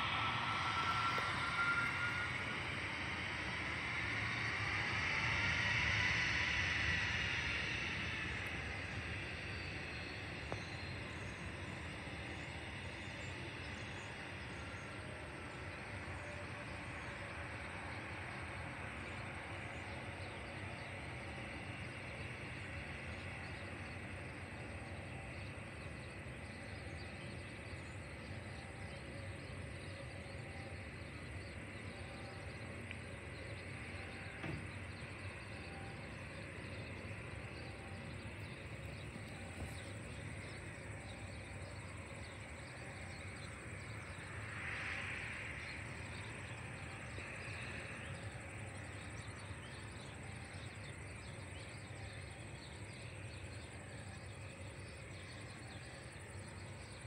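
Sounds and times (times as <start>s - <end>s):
distant jet airliner taxiing: 0.0s - 57.0s.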